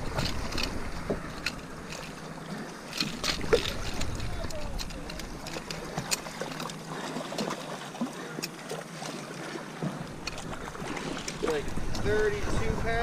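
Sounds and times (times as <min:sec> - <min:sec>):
water lapping at shoreline: 0:00.0 - 0:13.0.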